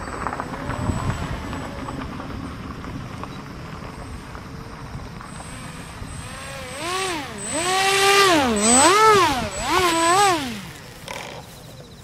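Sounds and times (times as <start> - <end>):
electric motor and propeller whining: 0.0 - 12.0.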